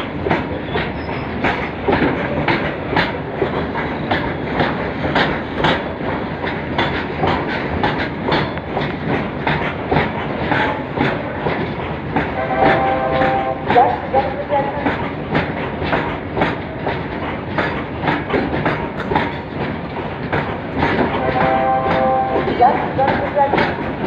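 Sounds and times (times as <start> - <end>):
train rolling rumble: 0.0 - 24.0
train wheels clacking on rail joints: 0.0 - 24.0.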